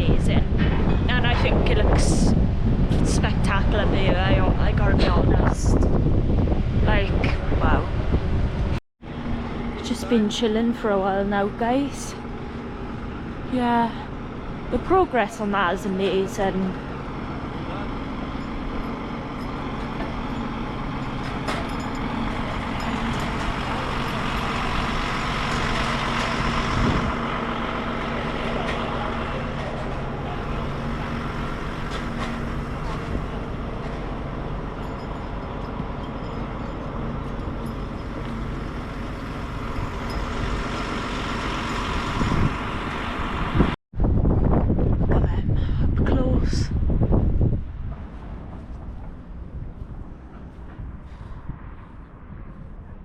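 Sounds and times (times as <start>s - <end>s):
large vehicle engine running: 0.0s - 43.8s
traffic noise: 0.0s - 43.8s, 46.8s - 53.0s.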